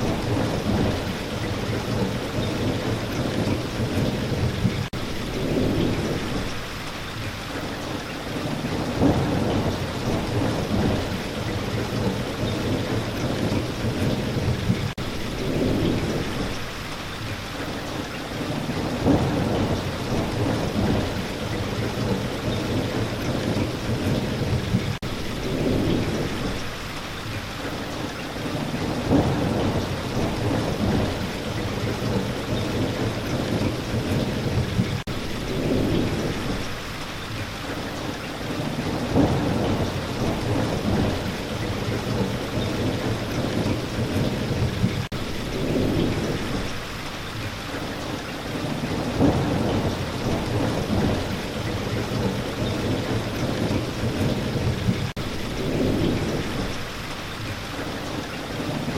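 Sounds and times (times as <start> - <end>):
thunder rumbling: 0.0 - 6.8, 7.6 - 37.0, 37.7 - 58.9
steady rain falling: 0.0 - 58.9.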